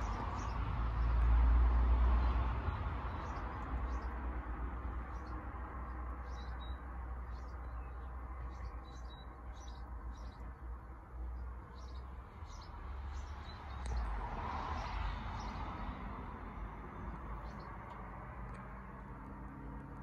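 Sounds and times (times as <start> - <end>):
small birds chirping: 0.0 - 1.5, 2.1 - 20.0
low outdoor rumble: 0.0 - 20.0.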